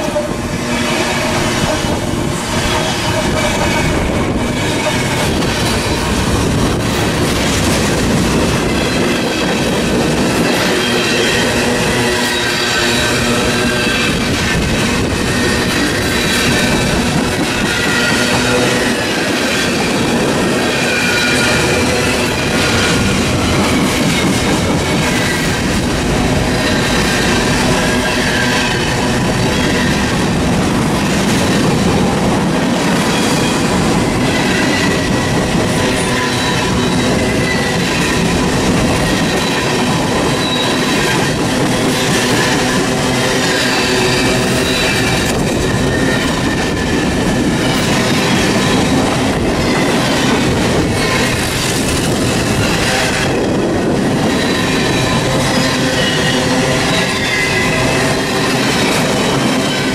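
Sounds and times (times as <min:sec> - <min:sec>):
freight train wheel rumble: 0:00.0 - 0:59.9
high wheel squeals: 0:08.6 - 0:30.2, 0:33.0 - 0:59.9.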